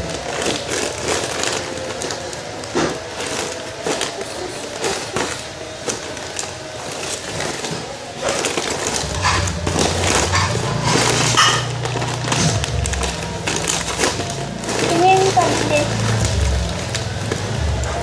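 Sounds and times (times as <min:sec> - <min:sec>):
rummaging through toys and packaging: 0:00.0 - 0:18.0.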